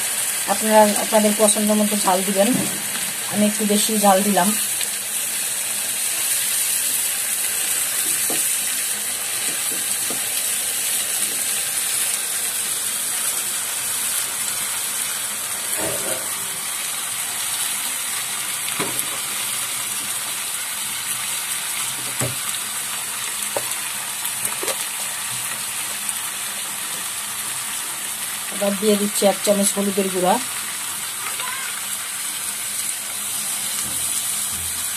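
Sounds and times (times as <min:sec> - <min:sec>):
food sizzling in oil: 0:00.0 - 0:34.9.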